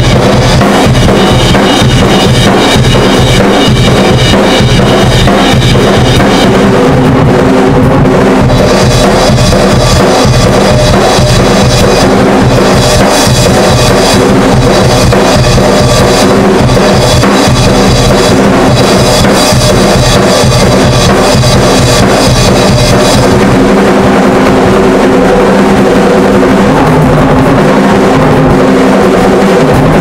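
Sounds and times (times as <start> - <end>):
acoustic drum kit playing: 0.0 - 30.0.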